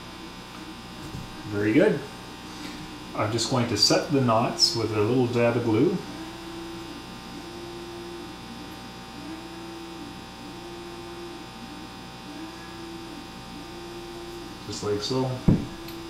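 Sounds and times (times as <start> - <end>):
electrical hum: 0.0 - 16.0
higher hum tone: 0.0 - 16.0.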